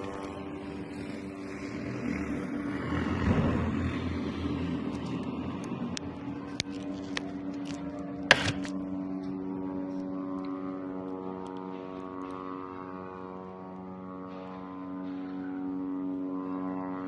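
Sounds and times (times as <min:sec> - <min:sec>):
drone buzzing overhead: 0:00.0 - 0:17.0.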